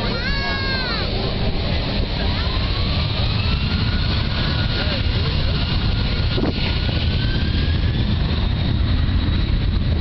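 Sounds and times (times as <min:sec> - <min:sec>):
jet engines at takeoff: 0:00.0 - 0:10.0.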